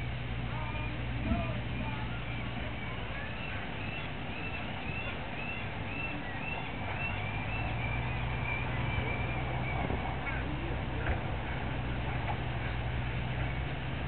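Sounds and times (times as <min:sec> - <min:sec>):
steady low hum: 0:00.0 - 0:14.0
birds chirping: 0:00.6 - 0:14.0.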